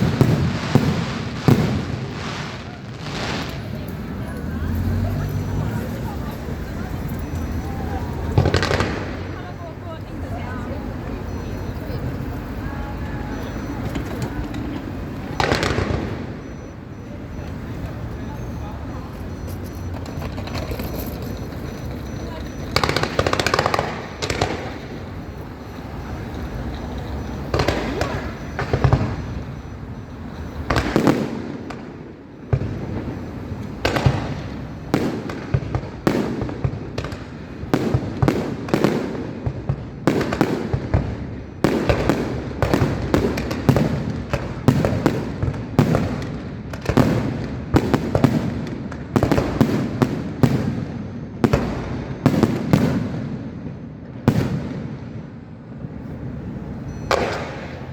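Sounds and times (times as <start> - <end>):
fireworks bursting with booms: 0.0 - 4.7, 5.6 - 57.9.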